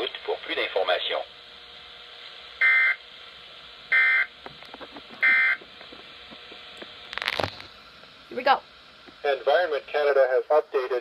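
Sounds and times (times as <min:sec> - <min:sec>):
radio hiss with crackles: 0:00.0 - 0:02.5, 0:04.4 - 0:11.0.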